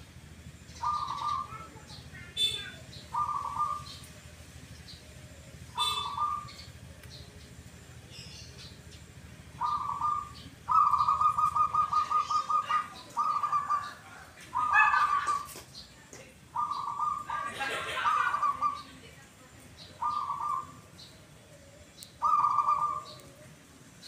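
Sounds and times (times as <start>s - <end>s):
dove cooing: 0.7s - 15.6s, 16.4s - 19.2s, 19.8s - 24.0s.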